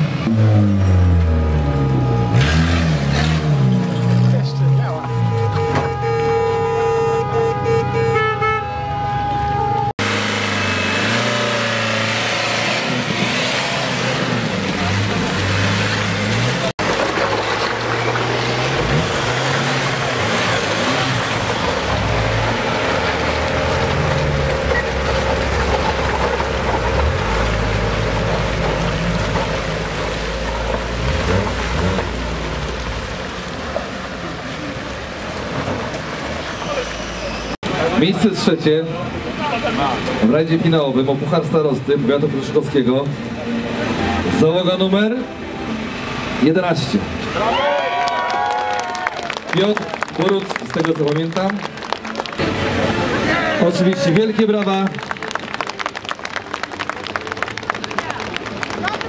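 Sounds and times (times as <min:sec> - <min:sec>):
race car engines running: 0:10.0 - 0:59.0.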